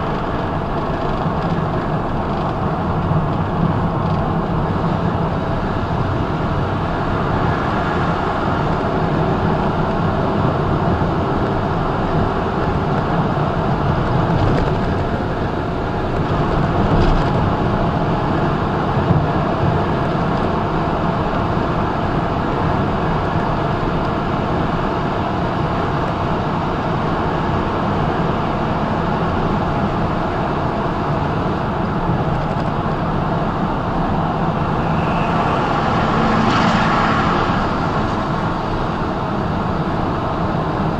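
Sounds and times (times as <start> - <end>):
truck engine drone: 0.0 - 40.9
tyre road noise: 0.0 - 40.9.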